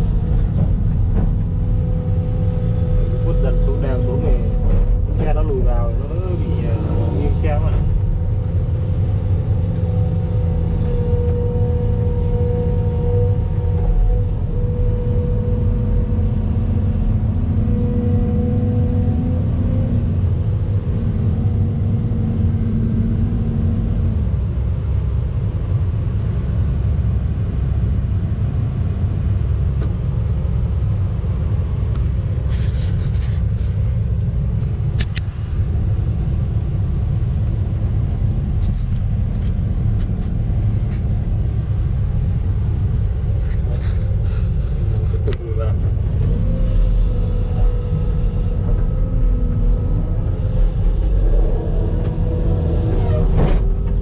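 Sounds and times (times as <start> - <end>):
excavator engine rumbling: 0.0 - 54.0
steady whine: 0.0 - 54.0.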